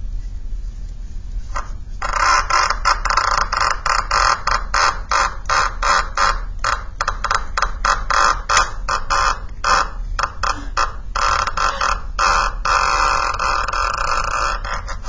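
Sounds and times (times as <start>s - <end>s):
cup and string croaky creaks: 1.5s - 15.0s.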